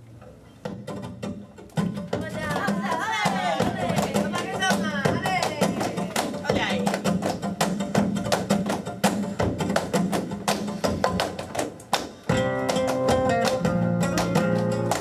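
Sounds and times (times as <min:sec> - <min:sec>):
flamenco footwork taps: 0:00.2 - 0:15.0
flamenco guitar strumming chords: 0:00.3 - 0:15.0.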